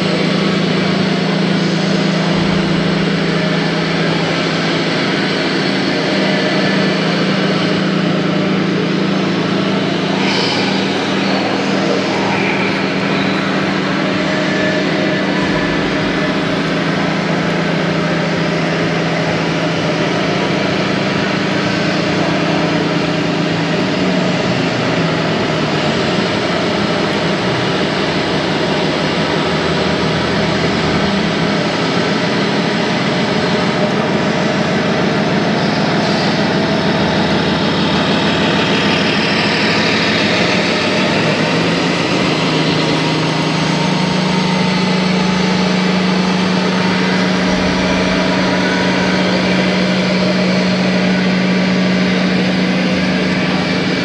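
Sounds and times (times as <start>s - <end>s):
high whine: 0.0s - 54.0s
simulated diesel engine sound: 0.0s - 54.0s.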